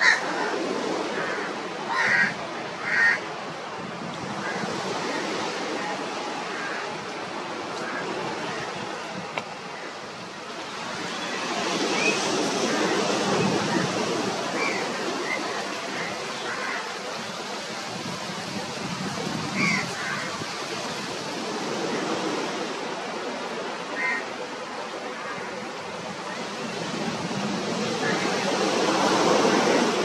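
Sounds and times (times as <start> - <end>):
waves breaking on sand beach: 0.0 - 30.0.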